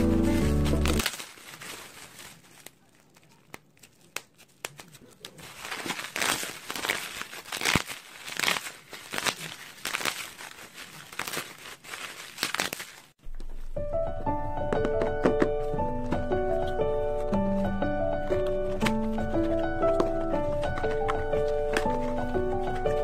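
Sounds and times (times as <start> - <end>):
bubble wrap crinkling: 0.0 - 13.2, 16.5 - 23.0
bubble wrap snapping: 0.0 - 13.2, 16.6 - 23.0.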